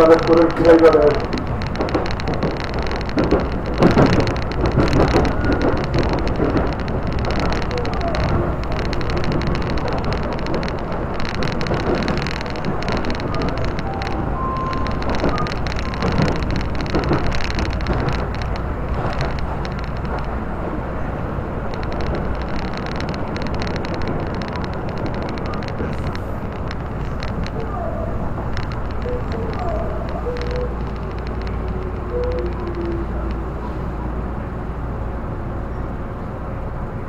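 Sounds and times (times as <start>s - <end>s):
rapid small clicks: 0.0s - 20.5s, 21.6s - 33.7s
train wheels rumbling on rails: 0.0s - 37.0s.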